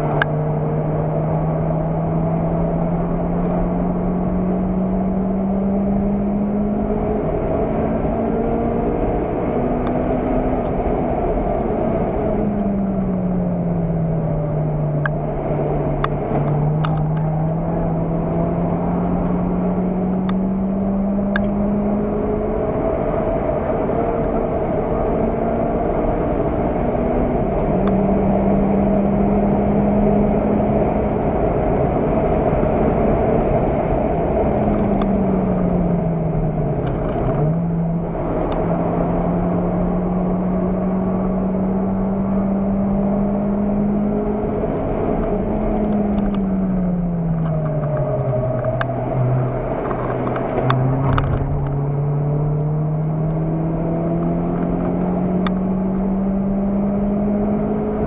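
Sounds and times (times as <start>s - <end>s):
car engine revving hard: 0.0s - 13.9s, 14.5s - 58.0s
road and wind noise: 0.0s - 58.0s.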